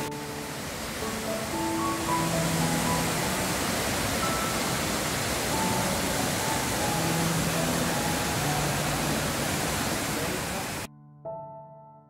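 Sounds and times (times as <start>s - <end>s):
waterfall rushing over boulders: 0.0s - 10.9s
soft background music: 0.0s - 12.0s.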